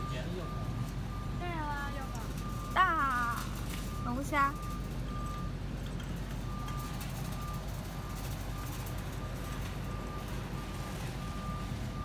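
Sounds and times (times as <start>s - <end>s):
electronic warning beeps: 0.0s - 5.6s, 6.4s - 12.0s.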